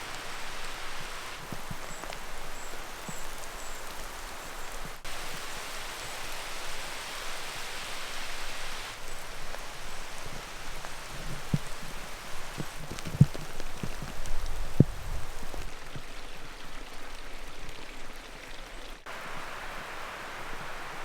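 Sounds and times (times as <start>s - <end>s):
rain falling on trees: 0.0s - 21.0s
sharp knocks of raindrops: 0.0s - 21.0s.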